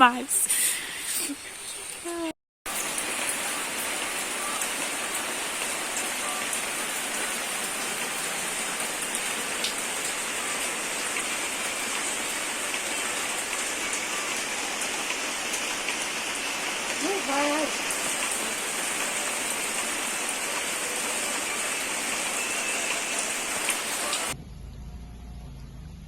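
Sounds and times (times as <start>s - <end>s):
heavy rain falling: 0.0s - 24.4s.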